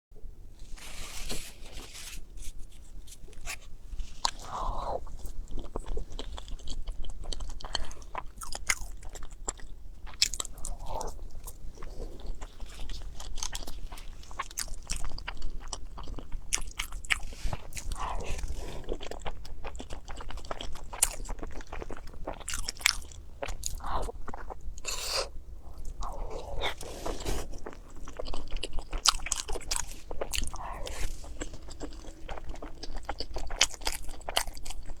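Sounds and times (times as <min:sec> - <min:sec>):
person chewing crunchy food: 0:02.5 - 0:35.0.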